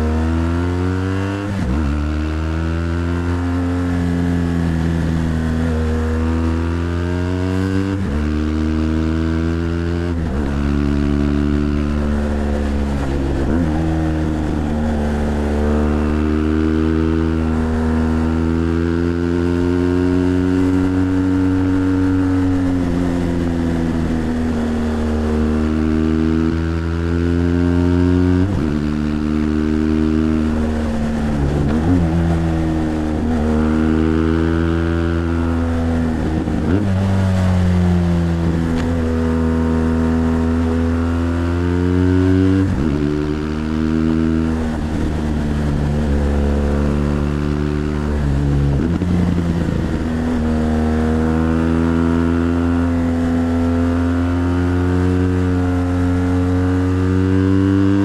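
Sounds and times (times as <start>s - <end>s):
motorcycle engine pulling uphill: 0.0s - 58.0s.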